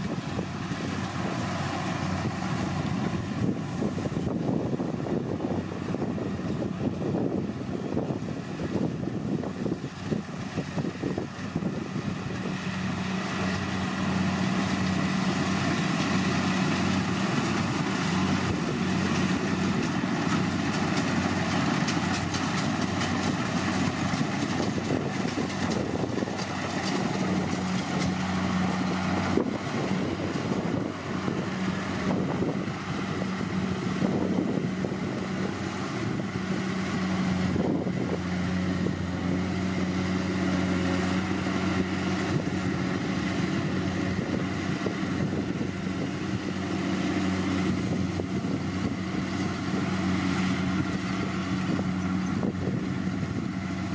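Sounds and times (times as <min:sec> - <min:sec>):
cutting and threshing machinery: 0:00.0 - 0:53.9
diesel engine hum: 0:00.0 - 0:53.9.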